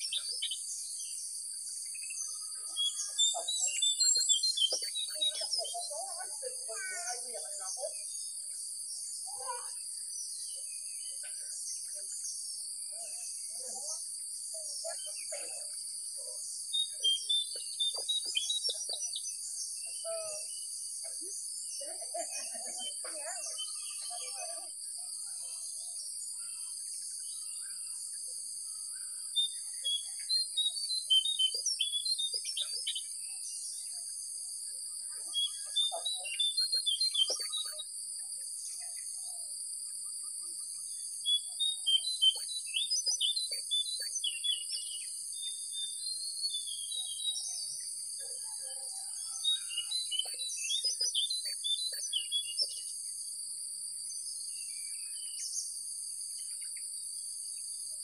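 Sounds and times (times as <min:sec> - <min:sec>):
birds chirping: 0:00.0 - 0:53.3.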